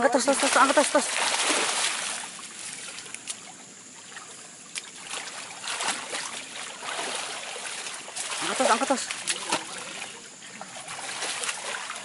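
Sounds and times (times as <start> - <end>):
water splashing and sloshing: 0.0 - 12.0
water trickling: 0.0 - 12.0.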